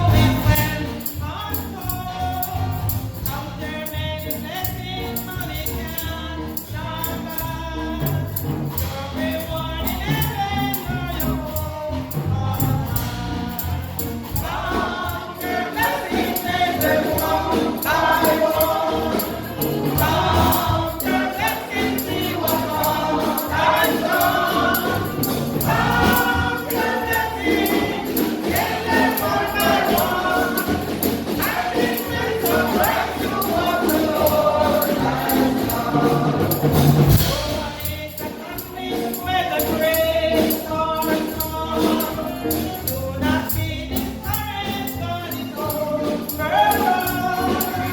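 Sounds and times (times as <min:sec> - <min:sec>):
band accompaniment: 0:00.0 - 0:47.9
choir singing gospel song: 0:00.0 - 0:47.9
tambourine beat: 0:00.0 - 0:47.9.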